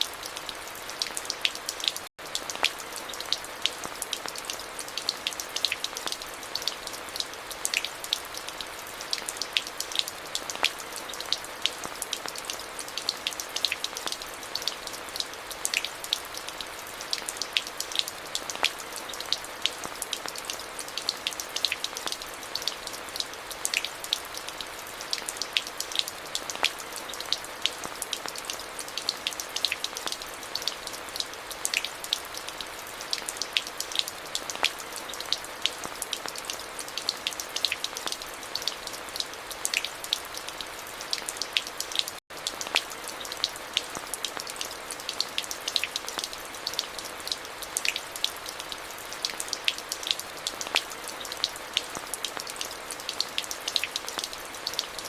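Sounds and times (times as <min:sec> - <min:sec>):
rain falling on hard surfaces: 0:00.0 - 0:55.0.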